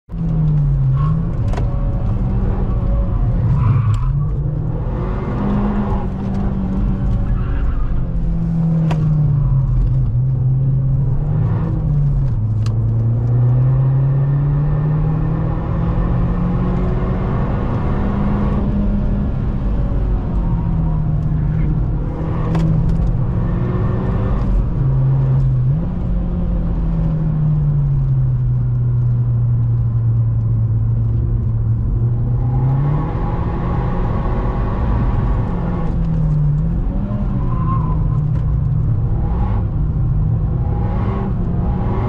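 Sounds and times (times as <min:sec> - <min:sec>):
car engine revving: 0:00.1 - 0:42.0.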